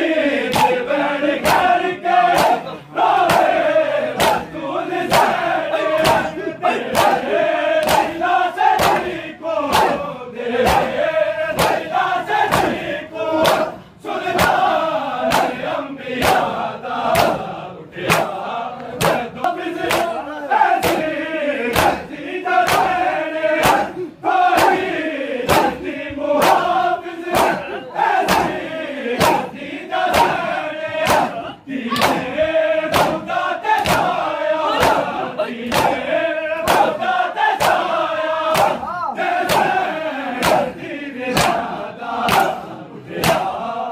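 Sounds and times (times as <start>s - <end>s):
crowd chanting in unison: 0.0s - 43.9s
chest beating slaps: 0.4s - 15.6s, 16.2s - 42.6s, 43.2s - 43.6s.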